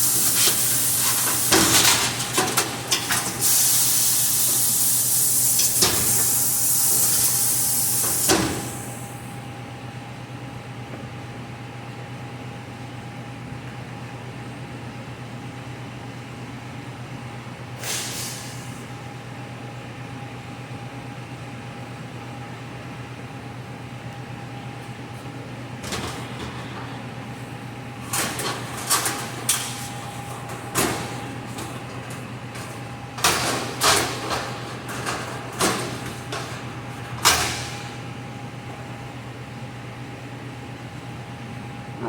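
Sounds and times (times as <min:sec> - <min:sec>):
steady machine hum: 0:00.0 - 0:17.6, 0:18.9 - 0:42.0.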